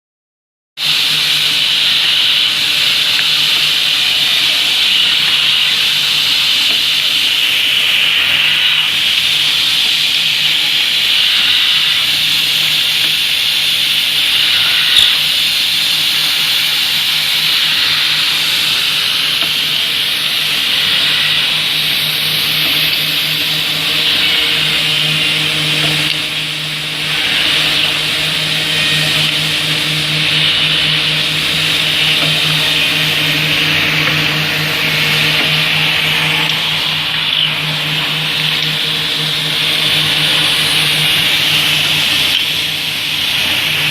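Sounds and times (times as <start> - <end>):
drilling machine motors hissing: 0.8 - 43.9.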